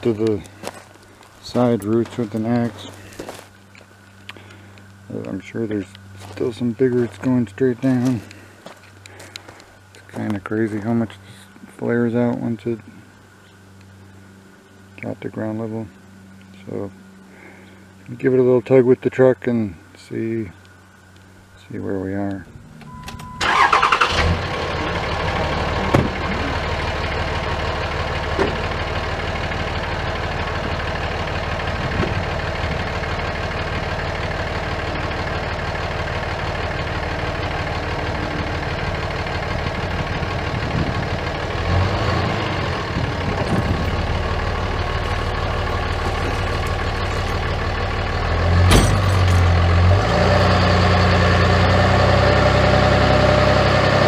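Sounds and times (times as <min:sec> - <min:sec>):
pickup engine idling: 0:00.0 - 0:11.6, 0:20.5 - 0:54.0.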